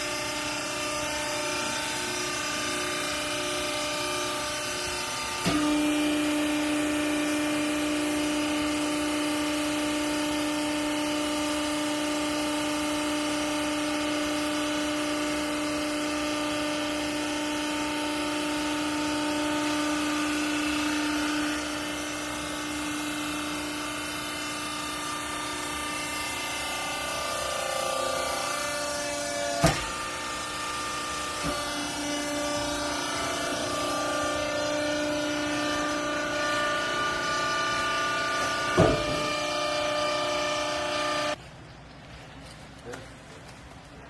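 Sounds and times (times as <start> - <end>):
hydraulic pump whine: 0.0 - 41.4
continuous machine hum: 0.0 - 44.0.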